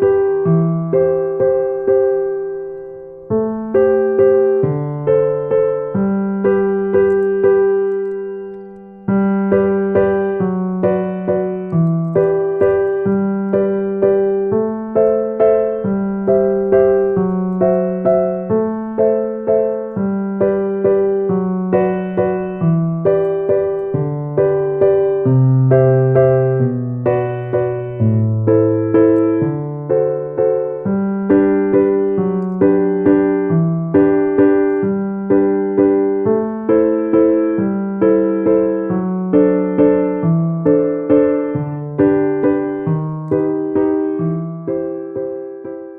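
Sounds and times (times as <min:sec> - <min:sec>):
gentle piano pattern: 0:00.0 - 0:45.9.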